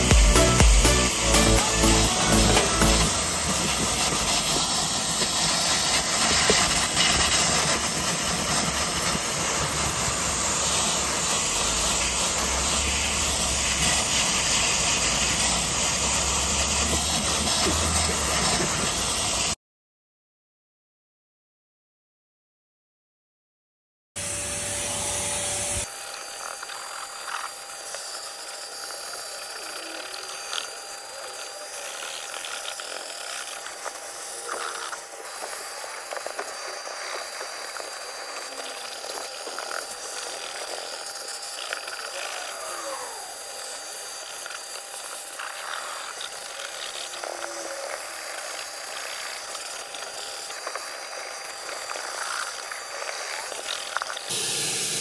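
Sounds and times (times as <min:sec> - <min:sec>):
small machine motor whining: 0:00.0 - 0:19.6, 0:24.2 - 0:55.0.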